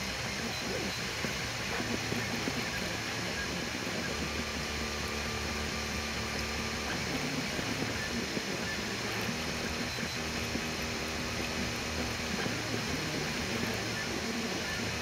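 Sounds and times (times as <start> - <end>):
steady fan noise: 0.0 - 15.0
stepper motors whirring: 0.0 - 15.0.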